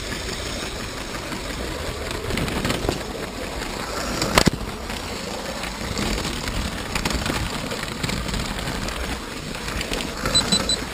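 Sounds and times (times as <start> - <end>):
toy train running on plastic track: 0.0 - 10.9.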